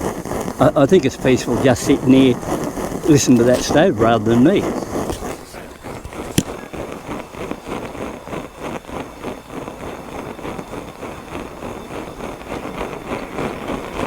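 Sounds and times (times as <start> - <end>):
camp stove flame puffing: 0.0 - 14.0.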